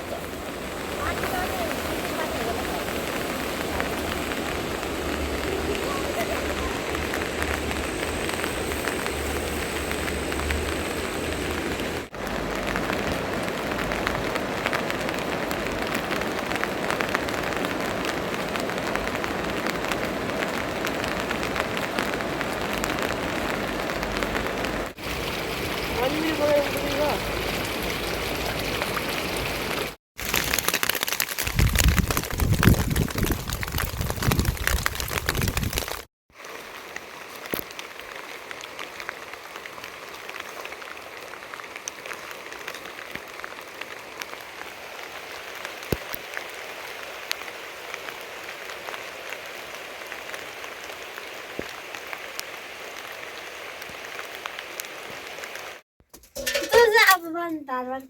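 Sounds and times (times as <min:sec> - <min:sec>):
rain falling: 0:00.0 - 0:55.8, 0:56.4 - 0:58.0.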